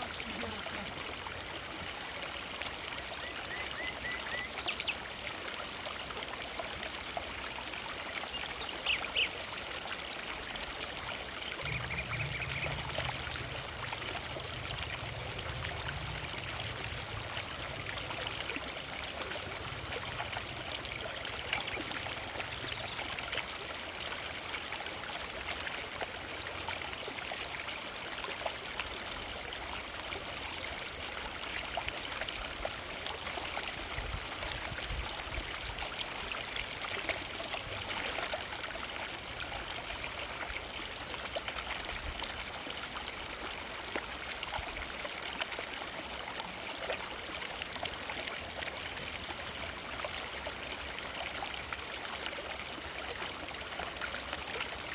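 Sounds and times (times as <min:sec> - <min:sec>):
river water flowing over stones: 0:00.0 - 0:54.9.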